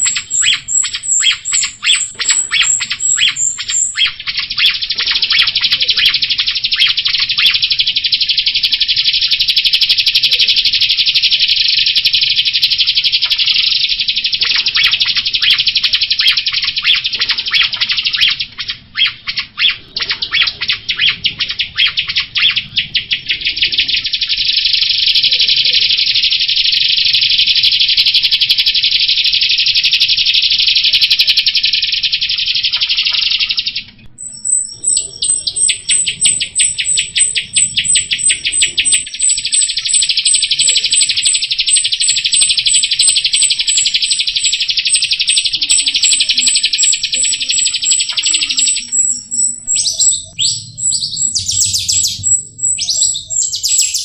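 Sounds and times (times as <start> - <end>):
high repeated bird notes: 0.0 - 54.0
starling buzzing chatter: 0.0 - 54.0.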